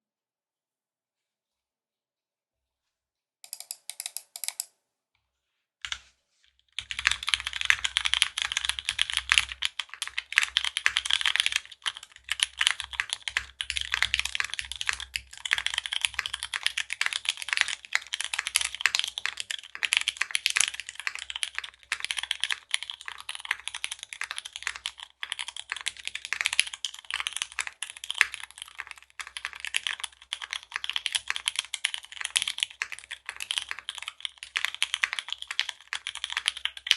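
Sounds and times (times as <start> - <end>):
mechanical keyboard typing: 3.4 - 4.7, 6.8 - 36.9.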